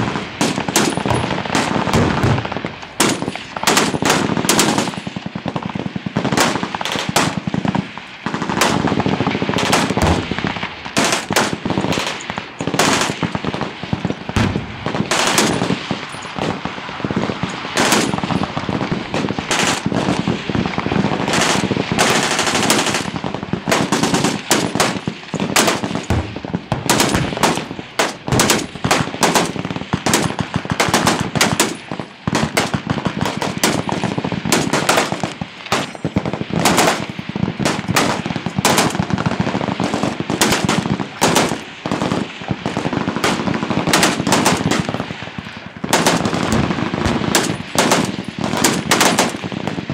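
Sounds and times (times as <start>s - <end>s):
machine guns firing: 0.0s - 49.9s.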